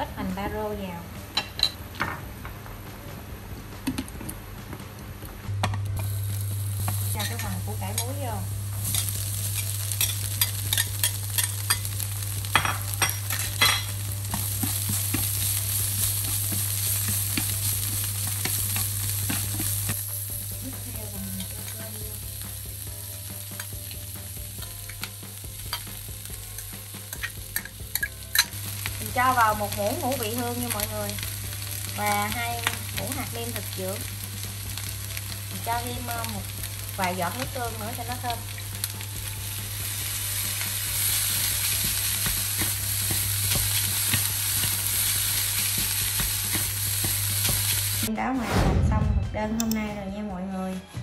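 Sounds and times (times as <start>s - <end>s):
food sizzling in pan: 6.0s - 48.1s.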